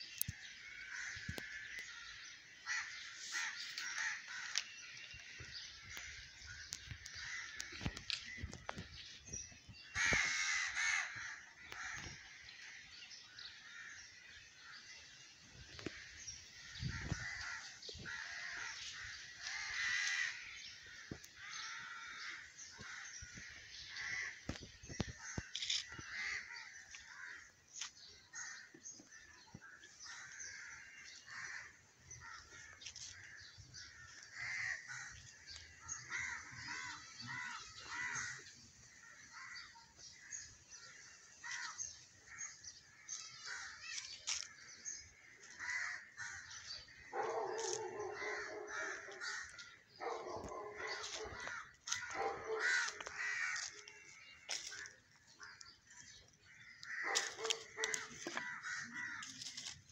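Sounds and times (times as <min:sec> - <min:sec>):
birds calling: 0:00.0 - 0:59.9.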